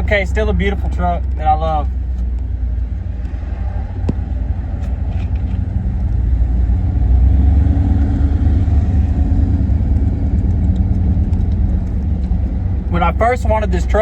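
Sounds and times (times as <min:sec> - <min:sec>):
pickup engine running: 0:00.0 - 0:14.0.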